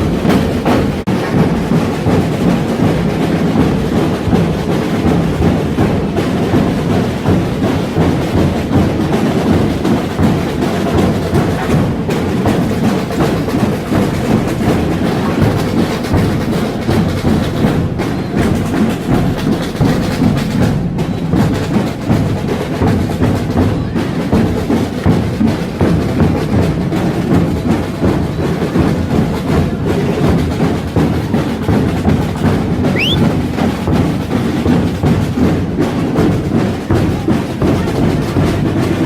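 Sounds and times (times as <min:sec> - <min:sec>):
deep booming drum beats: 0:00.0 - 0:39.0
massed marching drums: 0:00.0 - 0:39.0.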